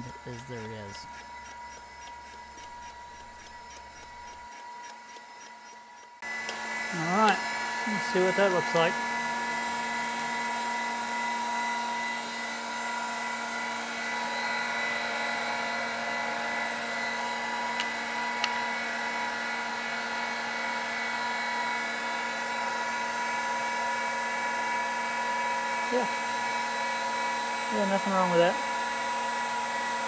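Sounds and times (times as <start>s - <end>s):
grinder motor hum with whine: 0.0s - 30.0s.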